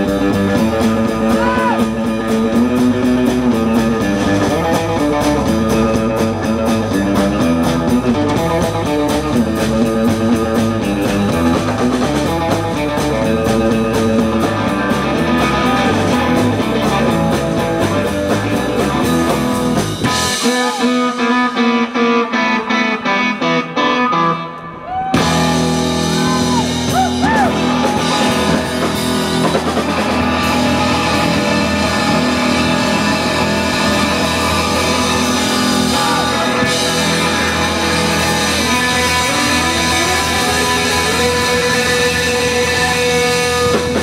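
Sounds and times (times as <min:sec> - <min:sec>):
bending electric guitar lines: 0:00.0 - 0:44.0
live rock band playing: 0:00.0 - 0:44.0.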